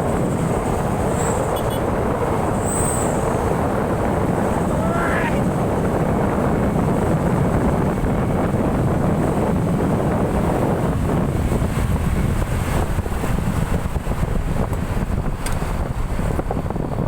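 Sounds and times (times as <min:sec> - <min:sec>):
truck rumble: 0:00.0 - 0:17.0
wind buffeting microphone: 0:00.0 - 0:17.0.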